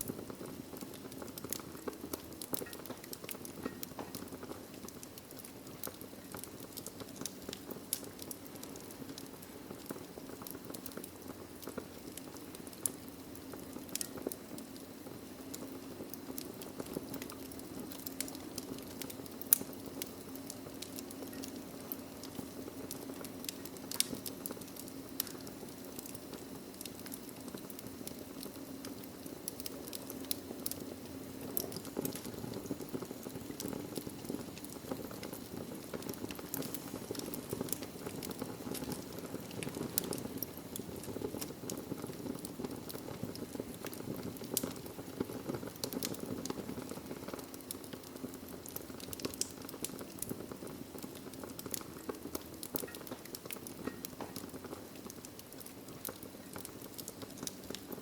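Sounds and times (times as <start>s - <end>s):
rushing of flame: 0.0s - 58.0s
wood fire crackling and popping: 0.0s - 58.0s.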